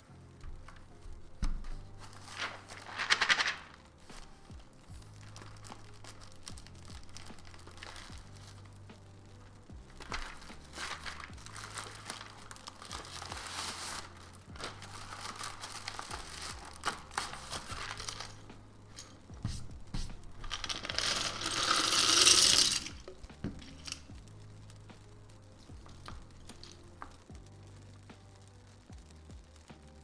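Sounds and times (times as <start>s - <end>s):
plastic packaging crinkling: 0.0s - 29.6s.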